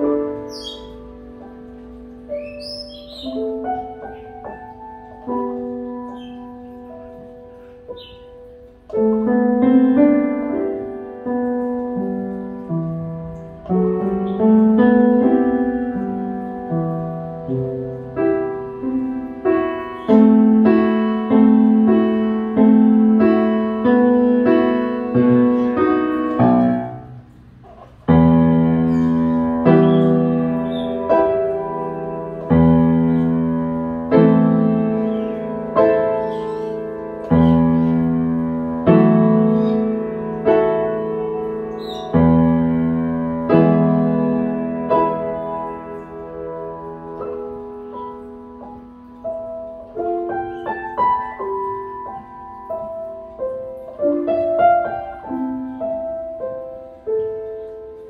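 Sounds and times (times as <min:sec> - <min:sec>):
piano chords: 0:00.0 - 0:58.0.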